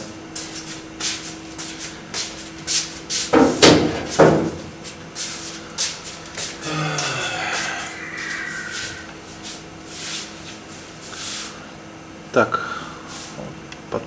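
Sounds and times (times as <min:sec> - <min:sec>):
faint steady hum: 0:01.6 - 0:14.0.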